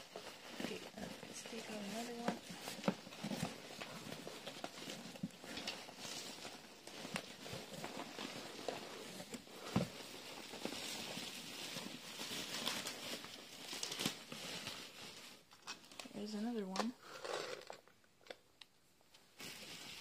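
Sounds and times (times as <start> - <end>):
bubble wrap crinkling: 0.0 - 18.4, 19.1 - 20.0.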